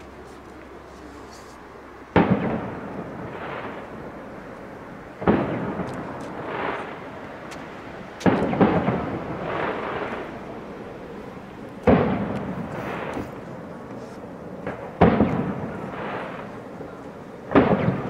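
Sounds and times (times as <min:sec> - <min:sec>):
rolling rumble: 0:00.0 - 0:18.0.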